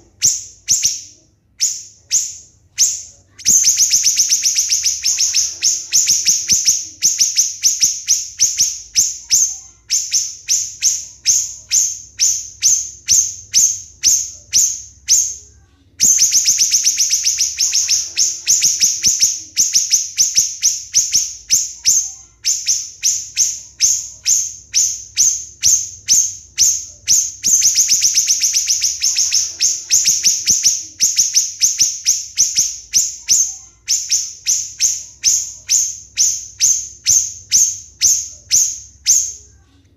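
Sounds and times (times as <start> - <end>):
bird singing rapid high notes: 0.1 - 15.4, 16.0 - 39.5.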